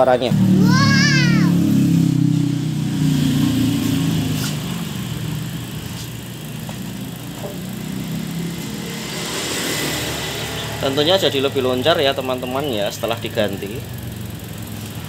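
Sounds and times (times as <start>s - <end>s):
freehub buzzing: 0.0s - 15.0s.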